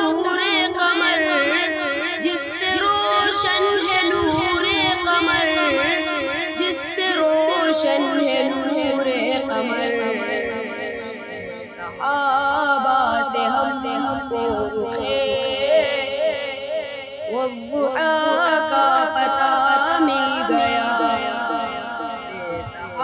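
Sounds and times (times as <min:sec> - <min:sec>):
layered voices singing devotional song: 0:00.0 - 0:23.0.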